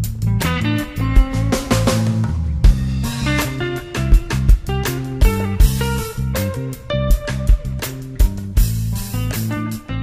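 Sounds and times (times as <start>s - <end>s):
drum kit hits: 0.0s - 9.6s
bass guitar: 0.0s - 10.0s
electric guitar: 0.0s - 10.0s.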